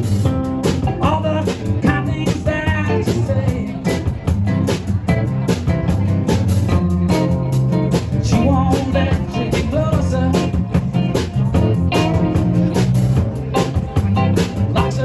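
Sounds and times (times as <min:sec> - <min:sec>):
blues-rock band playing: 0:00.0 - 0:15.0.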